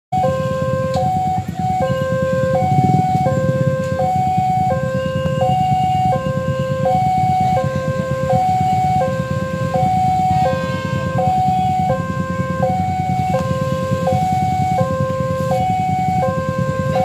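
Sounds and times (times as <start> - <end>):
two-tone crossing alarm: 0.1 - 17.0
steady low rumble: 0.2 - 17.0.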